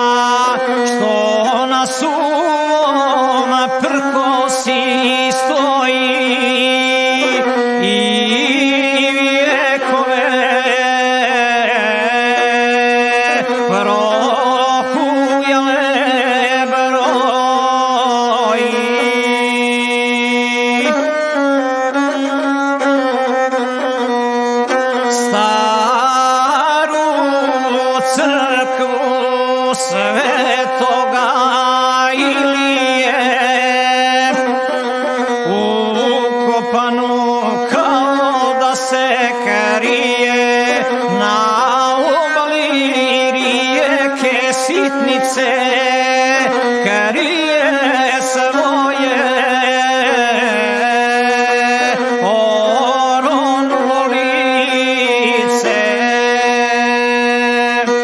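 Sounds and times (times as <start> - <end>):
person singing: 0.0 - 23.6, 24.6 - 58.0
bowed fiddle melody: 0.0 - 58.0.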